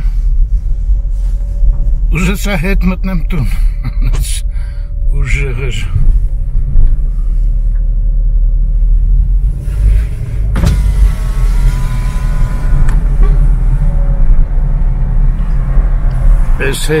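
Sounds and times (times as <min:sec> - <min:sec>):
steady high whine: 0:00.0 - 0:17.0.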